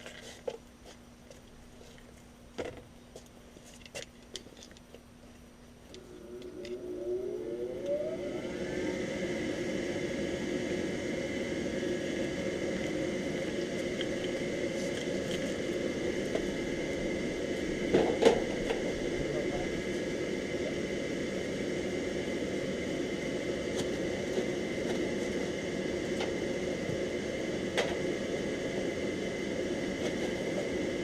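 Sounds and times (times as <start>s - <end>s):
motor spinning up and whirring: 5.9s - 31.0s.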